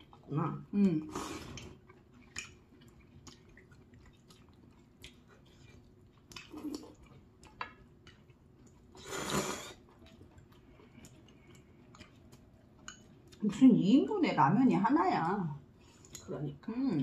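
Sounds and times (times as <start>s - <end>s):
wet chewing of noodles: 0.0s - 16.4s.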